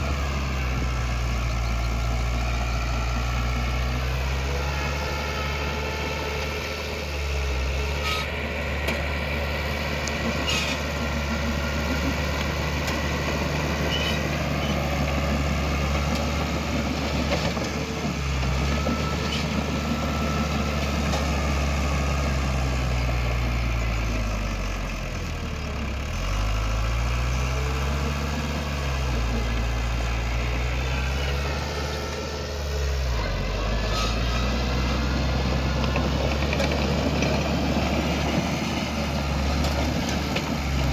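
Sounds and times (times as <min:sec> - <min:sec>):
heavy diesel engine under load: 0:00.0 - 0:40.9.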